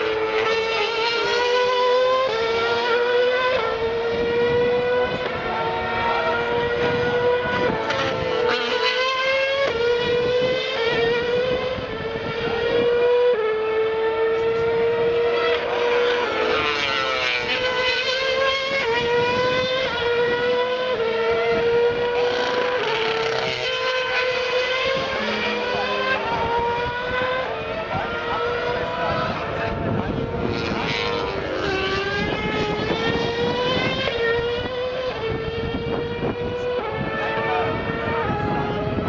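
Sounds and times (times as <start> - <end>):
racing car engines at high revs: 0.0 - 39.0
racing car passing close: 0.0 - 39.0.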